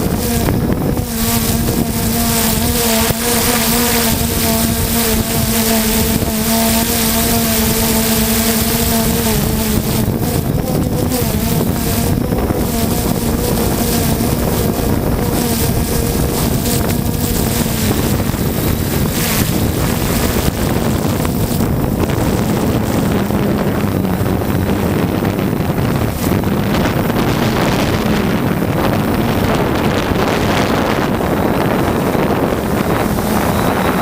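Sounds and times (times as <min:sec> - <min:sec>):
drone propellers humming: 0:00.0 - 0:34.0
wind buffeting microphone: 0:00.0 - 0:34.0.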